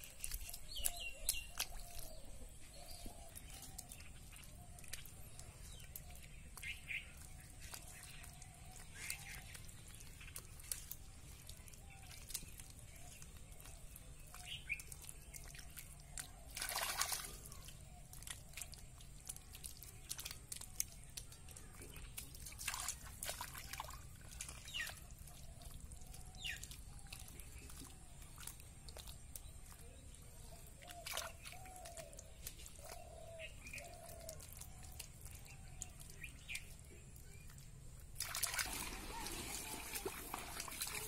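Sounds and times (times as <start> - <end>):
mud sloshing: 0.0 - 41.0
wet mud squelching under hands: 0.0 - 41.0.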